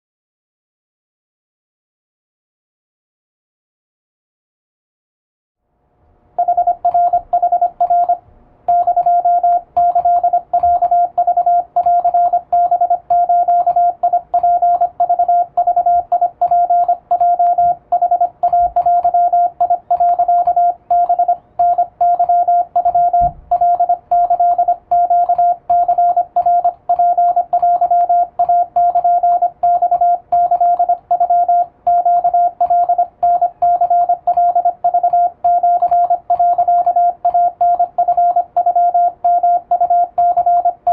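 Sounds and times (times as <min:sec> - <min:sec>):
morse code beeps: 0:06.4 - 0:40.9.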